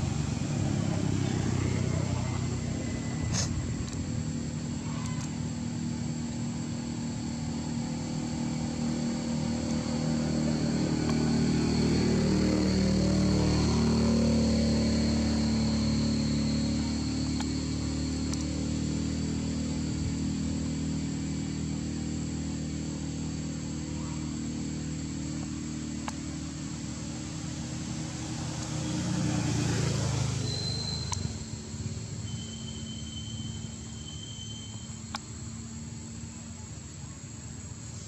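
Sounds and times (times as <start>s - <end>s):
passing motor vehicle engine: 0.0s - 34.8s
high insect buzz: 0.1s - 38.0s.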